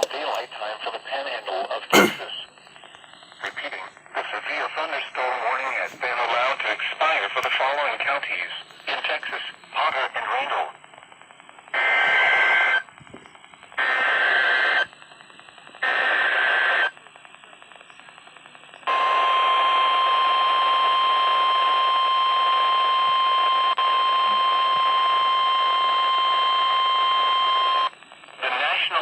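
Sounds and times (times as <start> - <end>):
radio hiss: 0.0 - 29.0.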